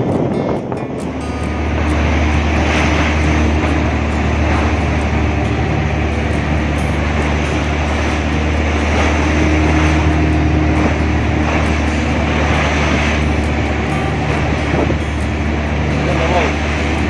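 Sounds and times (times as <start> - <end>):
boat engine humming: 0.0 - 17.0
water rushing: 0.0 - 17.0
wind noise: 0.0 - 17.0.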